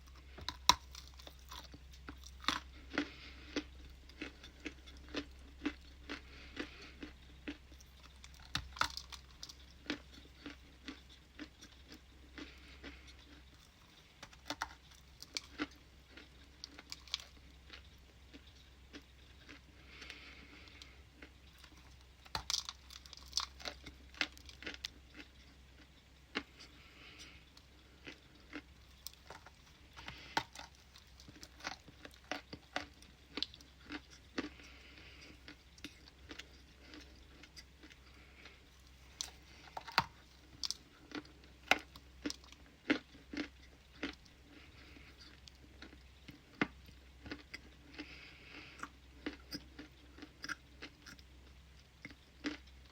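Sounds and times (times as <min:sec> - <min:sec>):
chewing: 0:00.0 - 0:52.9
ice crunching in mouth: 0:00.1 - 0:25.2, 0:28.0 - 0:46.0.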